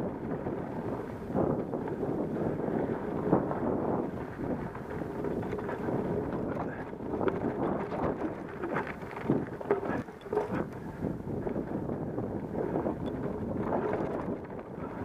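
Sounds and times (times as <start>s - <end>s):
bike rattling over bumps: 0.0s - 15.0s
wind rushing over microphone: 0.0s - 15.0s
tyre noise on dirt: 0.2s - 15.0s.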